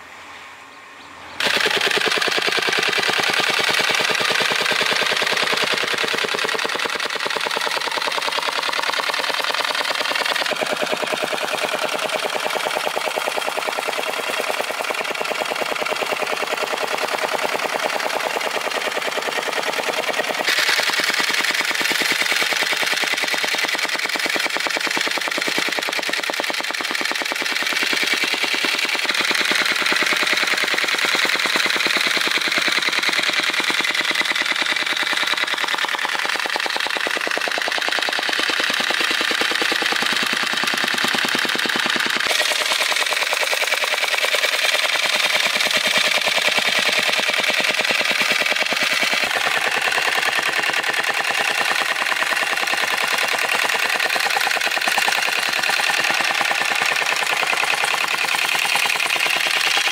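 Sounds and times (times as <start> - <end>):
machine rattling rapidly: 1.4 - 59.9.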